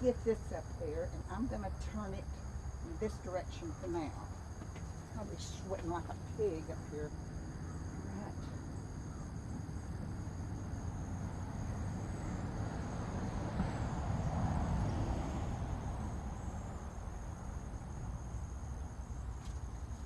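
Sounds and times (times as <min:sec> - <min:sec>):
insects trilling: 0:00.0 - 0:20.0
low rumble of passing vehicle: 0:00.0 - 0:20.0.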